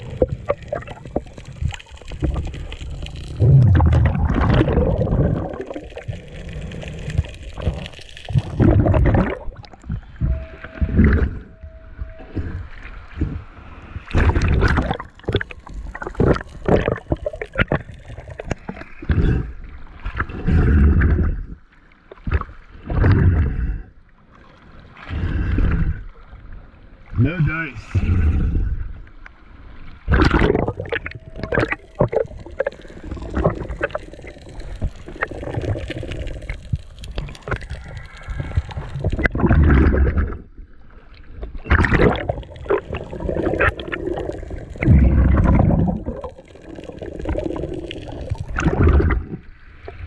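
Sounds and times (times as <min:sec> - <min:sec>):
sea water sloshing and splashing: 0:00.0 - 0:50.0.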